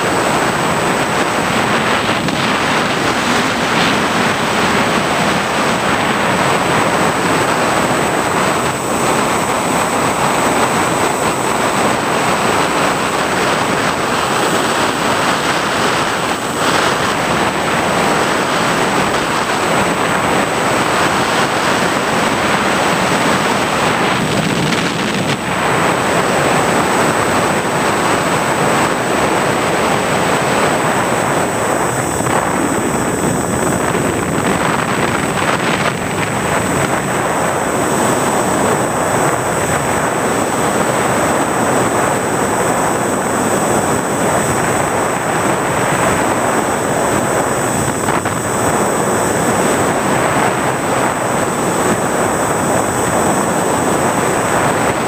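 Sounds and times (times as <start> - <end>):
high motor whine: 0.0 - 55.0
wind rushing: 0.0 - 55.0.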